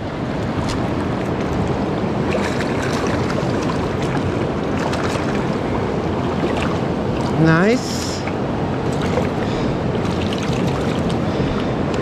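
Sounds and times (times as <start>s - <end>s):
fast-flowing river water: 0.0s - 12.0s.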